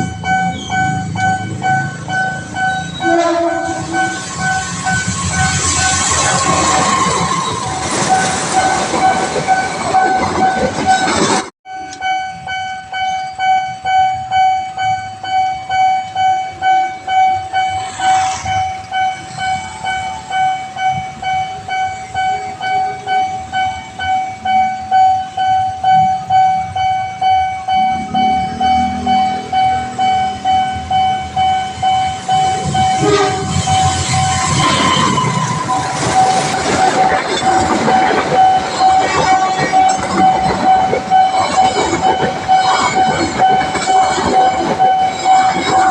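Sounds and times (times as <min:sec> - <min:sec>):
level crossing warning alarm: 0:00.0 - 0:45.9
passing train rushing: 0:00.0 - 0:45.9.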